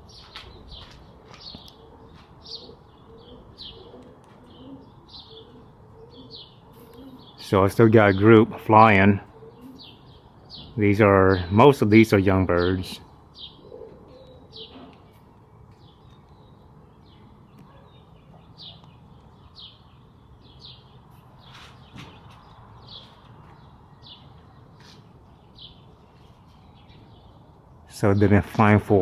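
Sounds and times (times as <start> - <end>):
small bird chirping: 0.0 - 7.5, 9.3 - 10.8, 12.7 - 27.6
faint outdoor background noise: 0.0 - 29.0.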